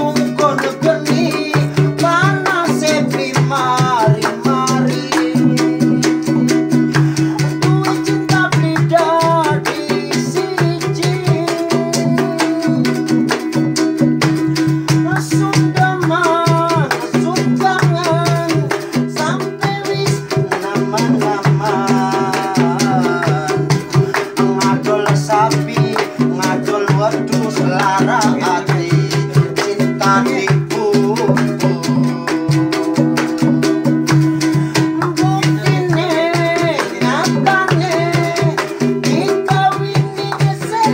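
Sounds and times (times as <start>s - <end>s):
plucked guitar melody: 0.0s - 40.9s.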